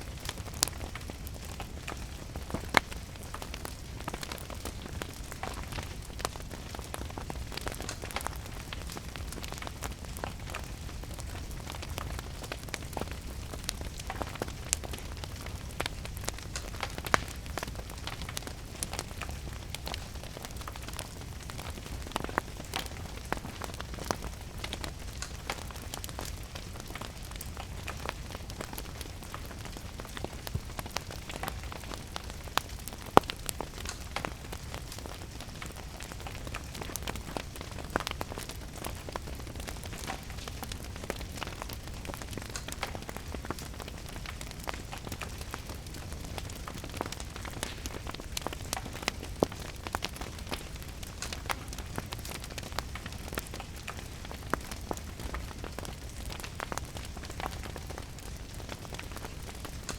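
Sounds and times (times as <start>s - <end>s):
steady rain hiss: 0.0s - 59.9s
wood fire crackling and popping: 0.0s - 59.9s.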